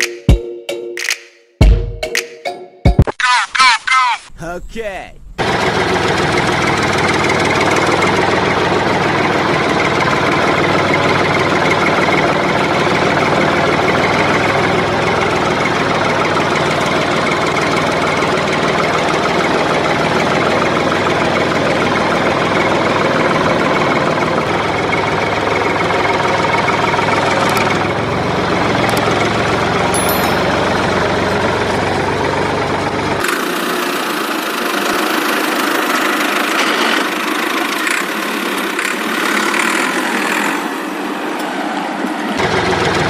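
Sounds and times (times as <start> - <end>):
engine running: 5.3 - 43.0.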